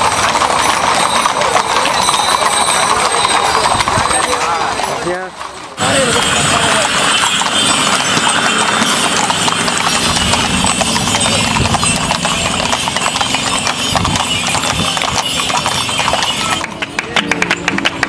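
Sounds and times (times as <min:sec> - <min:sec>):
horse hooves clip-clopping on asphalt: 0:00.0 - 0:18.0.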